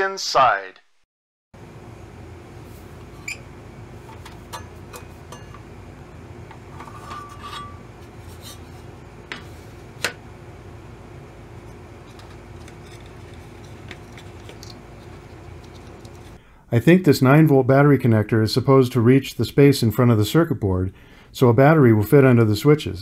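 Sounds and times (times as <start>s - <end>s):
faint steady hum: 1.6s - 23.0s.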